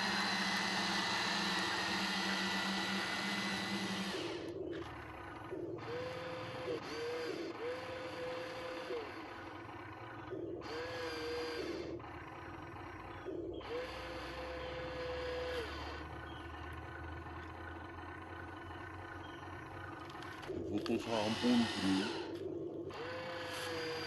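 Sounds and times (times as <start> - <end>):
excavator hydraulics whining: 0.0 - 24.0
low engine rumble: 0.0 - 24.0.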